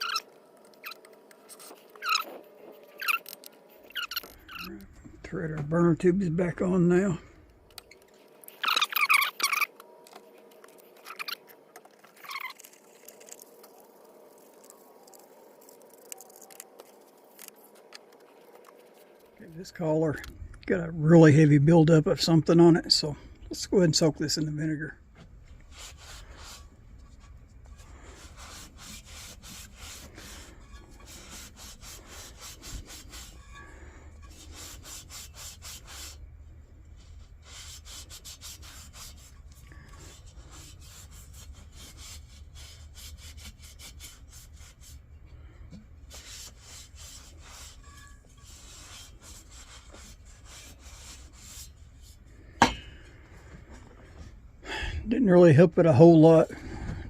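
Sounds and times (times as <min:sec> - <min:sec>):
scrubbing strokes on metal: 0:00.0 - 0:54.4.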